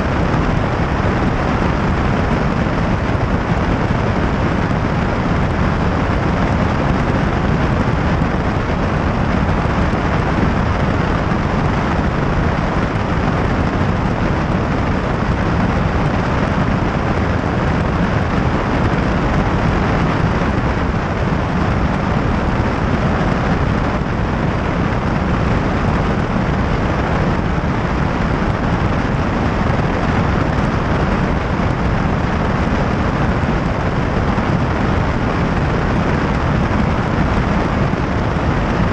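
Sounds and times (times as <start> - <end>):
airplane engine and propeller: 0.0 - 38.9
wind rushing on microphone: 0.0 - 38.9.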